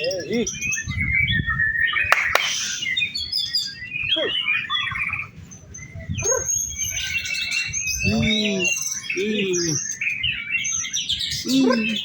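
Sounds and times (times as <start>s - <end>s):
bird singing whistles and trills: 0.0s - 12.0s.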